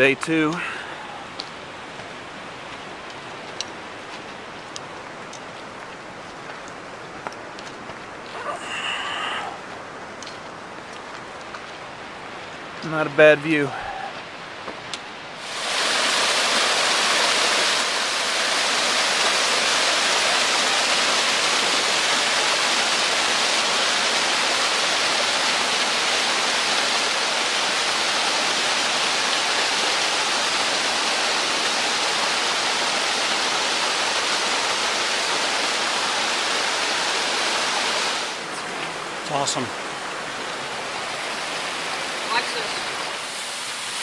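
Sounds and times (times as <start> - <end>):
waterfall roaring: 0.0 - 44.0.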